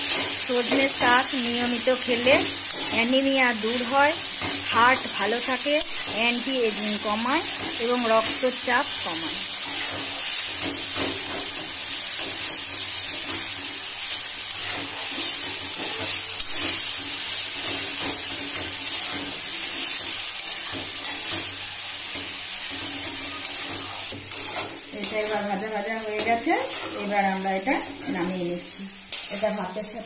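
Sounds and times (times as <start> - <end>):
spatula scraping a pan: 0.0 - 8.6, 9.3 - 28.3
leaves sizzling in oil: 0.0 - 30.0.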